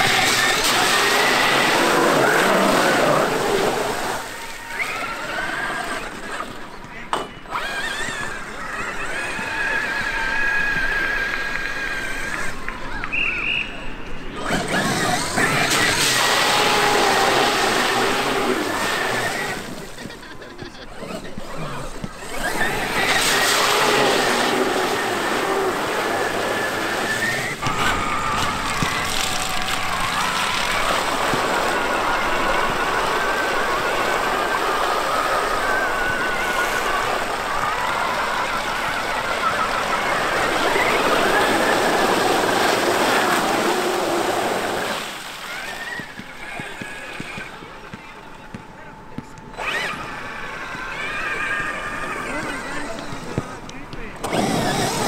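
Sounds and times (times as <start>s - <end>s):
electric toy truck motor whining: 0.0s - 6.6s, 7.2s - 12.8s, 14.3s - 47.7s, 49.4s - 53.6s, 54.2s - 55.0s.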